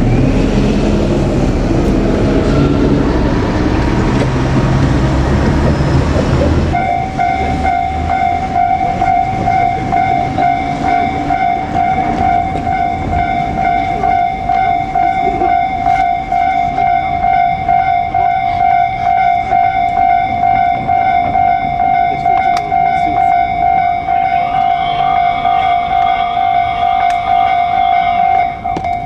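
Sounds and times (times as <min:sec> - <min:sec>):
train wheels rumbling: 0:00.0 - 0:29.0
level crossing alarm dinging: 0:03.7 - 0:29.0.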